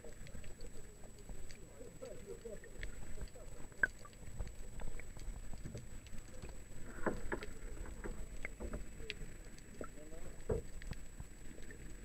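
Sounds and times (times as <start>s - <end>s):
low muffled underwater rumble: 0.0s - 12.0s
small clicks and knocks: 0.2s - 12.0s.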